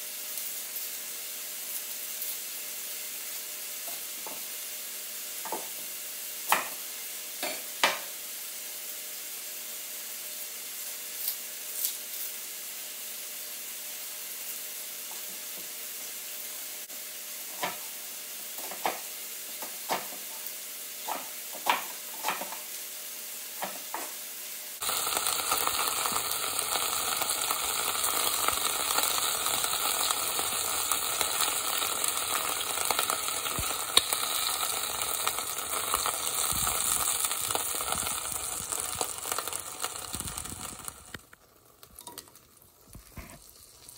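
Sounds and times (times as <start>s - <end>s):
meat sizzling in a pan: 0.0s - 43.9s.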